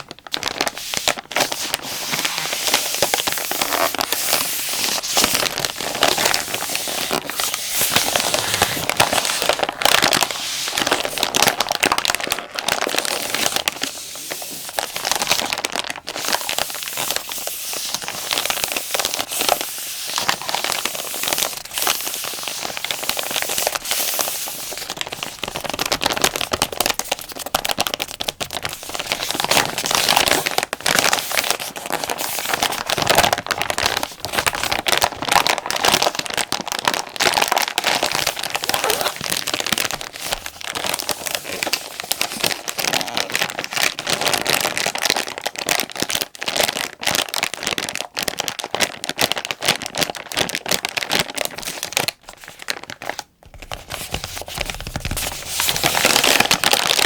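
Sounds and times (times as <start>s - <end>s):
plastic pack crinkling: 0.0s - 57.0s.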